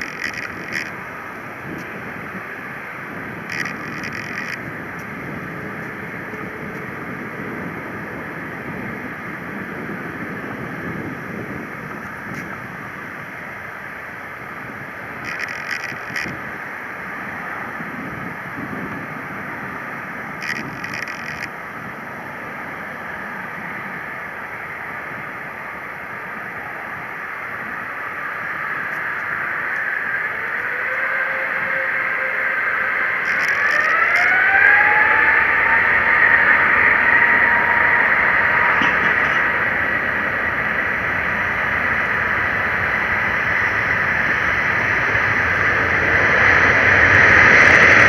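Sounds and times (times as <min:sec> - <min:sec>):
jet engines idling: 0:00.0 - 0:48.0.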